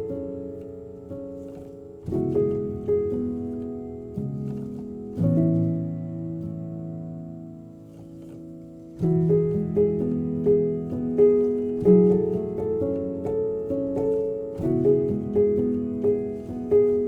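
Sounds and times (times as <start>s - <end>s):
slow calm piano piece: 0.0s - 17.0s.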